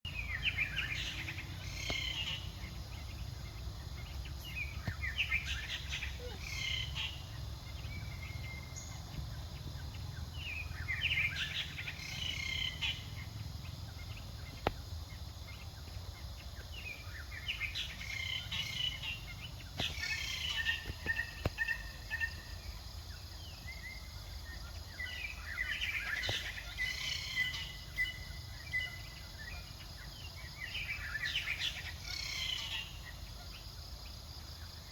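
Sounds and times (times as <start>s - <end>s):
birds chirping: 0.1s - 34.9s.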